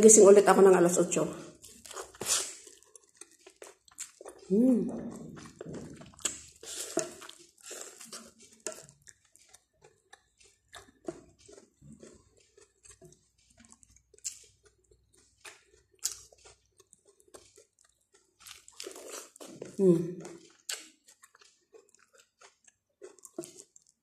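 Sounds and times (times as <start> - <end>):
person chewing corn: 1.4 - 24.0.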